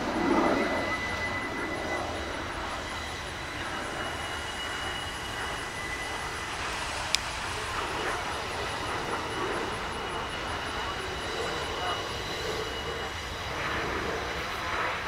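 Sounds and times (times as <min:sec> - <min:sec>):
distant jets flying overhead: 0:00.0 - 0:15.0.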